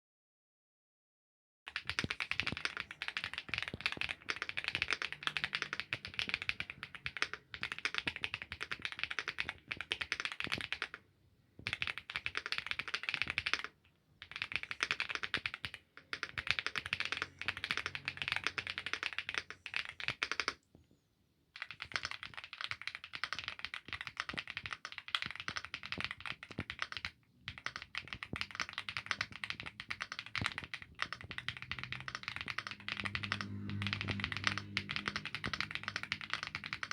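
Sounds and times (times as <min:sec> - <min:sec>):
fast typing on mechanical keyboard: 0:01.7 - 0:20.7, 0:21.6 - 0:36.9.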